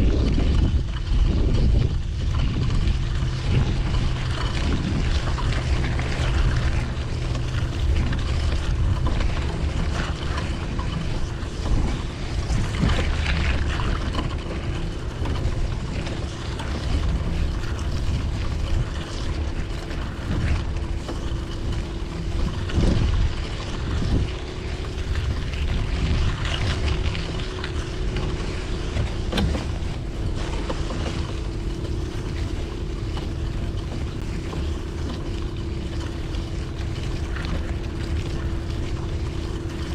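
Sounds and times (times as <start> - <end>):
engine hum: 0.0 - 39.9
wind rumbling on microphone: 0.0 - 39.9.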